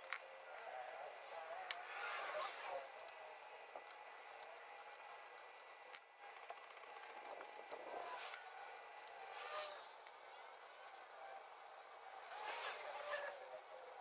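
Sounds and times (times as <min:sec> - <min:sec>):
hand tools clicking and scraping: 0:00.0 - 0:11.6.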